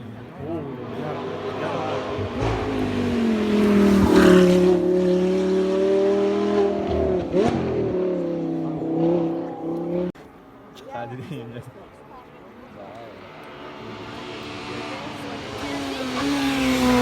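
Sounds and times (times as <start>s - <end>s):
race car engine at full throttle: 0.0s - 10.4s, 11.8s - 17.0s.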